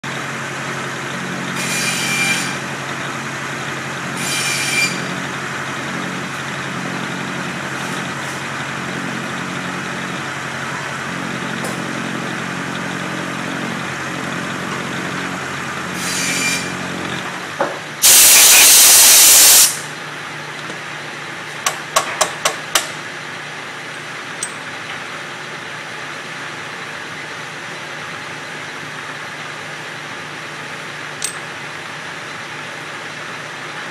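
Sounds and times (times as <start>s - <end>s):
milling machine motor hum: 0.0s - 33.9s.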